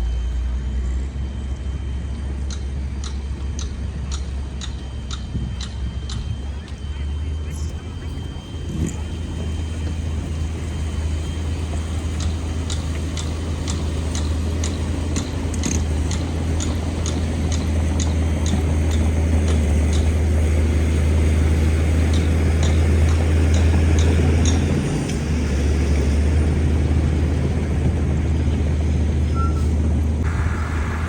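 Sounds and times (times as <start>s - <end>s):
bulldozer diesel engine drone: 0.0s - 31.0s
tracks clicking: 1.2s - 31.0s.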